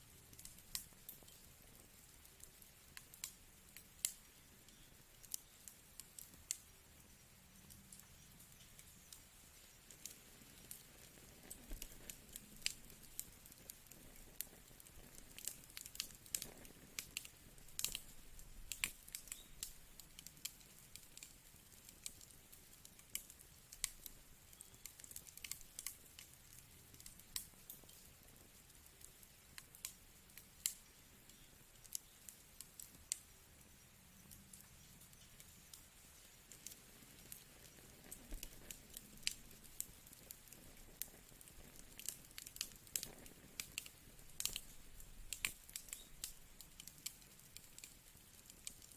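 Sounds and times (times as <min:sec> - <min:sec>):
faint hiss: 0:00.0 - 0:48.9
wood fire crackling: 0:00.0 - 0:48.9.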